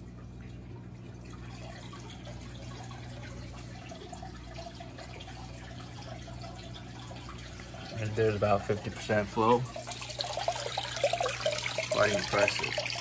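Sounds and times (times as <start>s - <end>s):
water running into aquarium: 0.0s - 13.0s.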